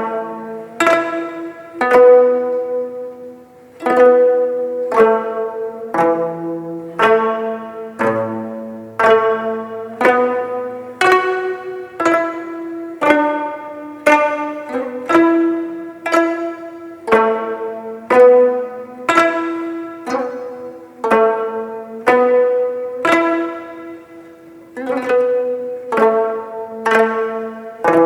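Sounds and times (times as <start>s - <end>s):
plucked zither ensemble melody: 0.0s - 28.0s.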